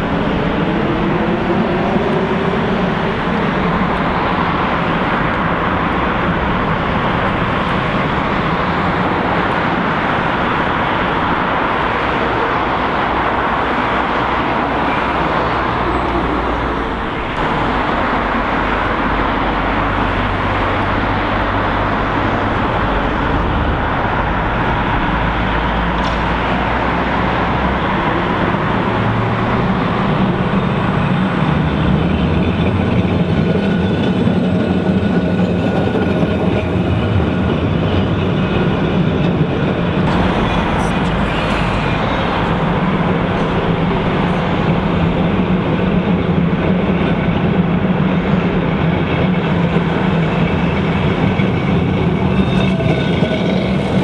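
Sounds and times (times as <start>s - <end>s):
electric tram rumble: 0.0s - 54.0s
road traffic noise: 0.0s - 54.0s.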